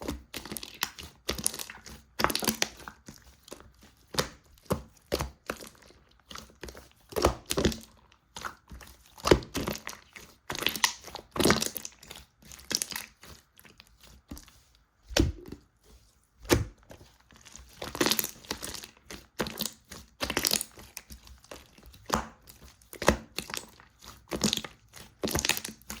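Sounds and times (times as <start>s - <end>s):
slime popping and squishing: 0.0s - 5.8s, 6.4s - 13.7s, 15.1s - 15.6s, 16.4s - 26.0s.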